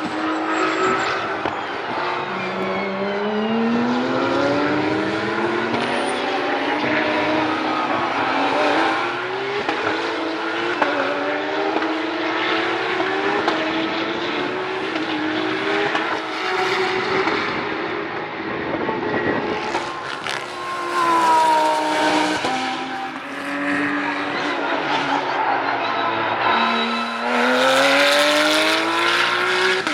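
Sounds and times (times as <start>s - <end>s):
race car engines revving: 0.0s - 29.9s
race car passing: 0.0s - 29.9s.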